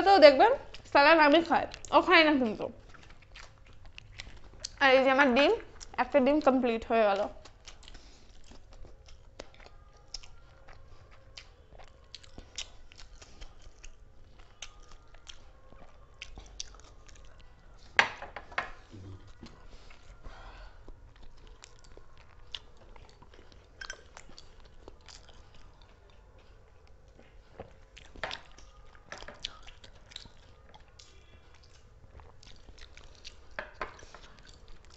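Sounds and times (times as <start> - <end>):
people chewing and crunching food: 0.0 - 34.9.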